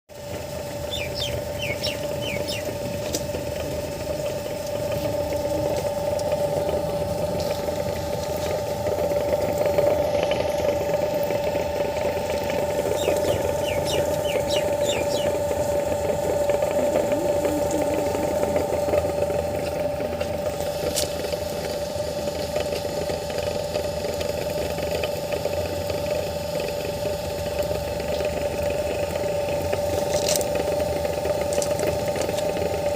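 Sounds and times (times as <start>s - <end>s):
motor whining and rumbling: 0.1s - 32.9s.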